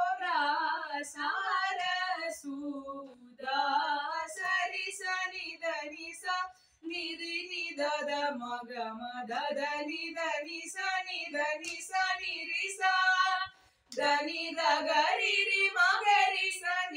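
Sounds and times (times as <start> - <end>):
boy and girl singing together: 0.0 - 16.9.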